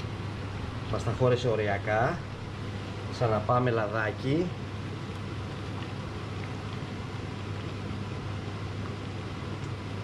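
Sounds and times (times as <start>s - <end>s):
fan-like hum: 0.0s - 10.0s.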